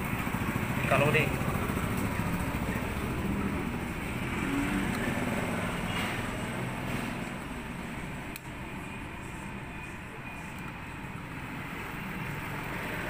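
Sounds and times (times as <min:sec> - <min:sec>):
road traffic rumble: 0:00.0 - 0:13.0
vehicle engine humming: 0:00.0 - 0:13.0.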